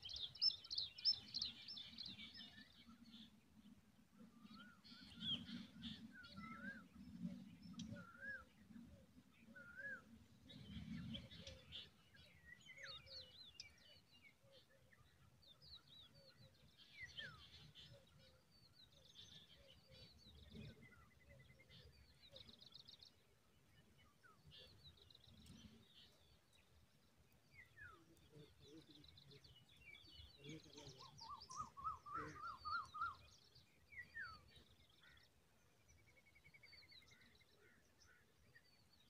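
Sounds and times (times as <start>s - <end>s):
birds chirping and trilling: 0.0s - 39.0s.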